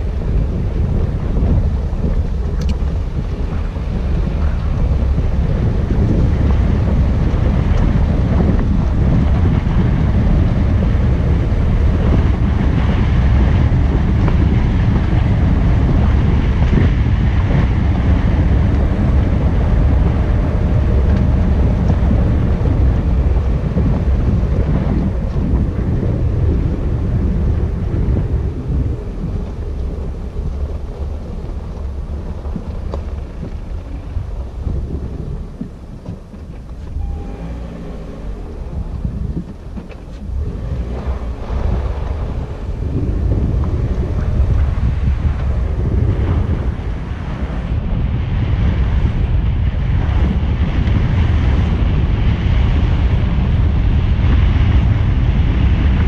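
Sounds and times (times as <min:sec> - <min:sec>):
road and engine rumble: 0:00.0 - 0:56.0
wind buffeting microphone: 0:00.0 - 0:56.0.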